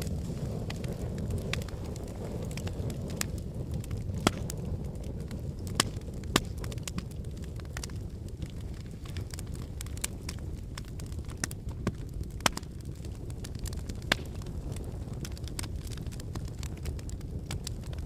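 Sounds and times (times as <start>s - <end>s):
wood logs burning: 0.0s - 18.0s.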